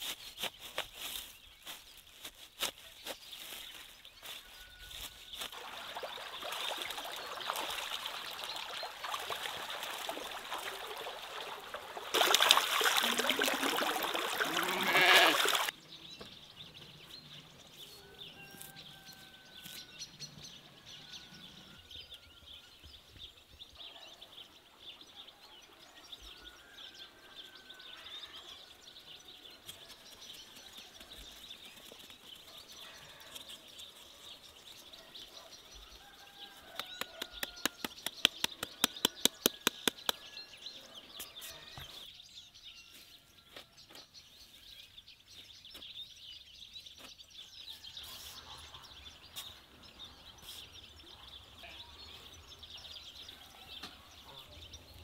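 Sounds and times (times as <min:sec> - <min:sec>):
small birds chirping and singing: 0:00.0 - 0:55.0.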